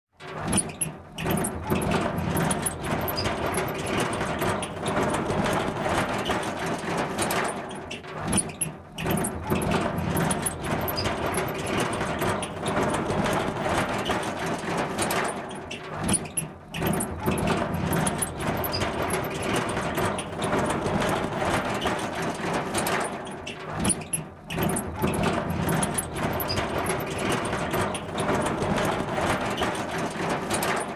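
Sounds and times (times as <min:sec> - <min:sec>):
metal cart on squeaky wheels: 0:00.2 - 0:30.9.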